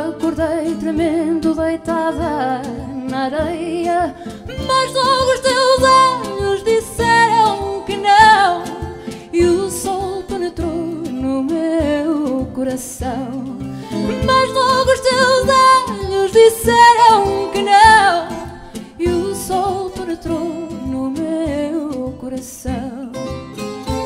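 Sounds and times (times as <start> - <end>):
woman singing with vibrato: 0.0 - 23.2
hand percussion: 0.0 - 24.0
plucked guitars: 0.0 - 24.0.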